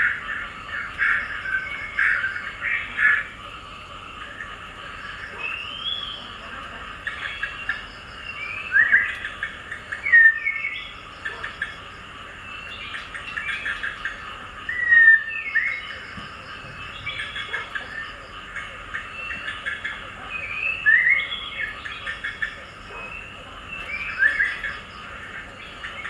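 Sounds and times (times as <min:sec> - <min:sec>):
birds chirping and singing: 0:00.0 - 0:26.0.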